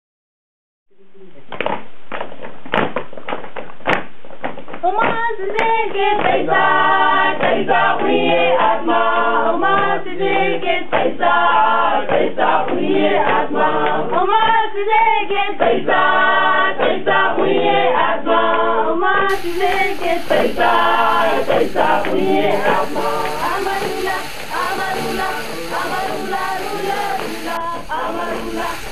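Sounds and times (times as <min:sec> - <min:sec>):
music with choral singing: 0:05.6 - 0:28.9.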